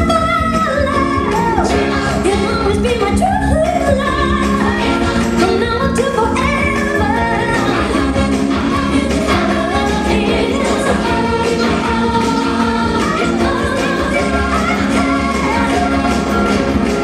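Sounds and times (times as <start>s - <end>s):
instrumental accompaniment with beat: 0.0s - 17.0s
person singing: 0.0s - 17.0s.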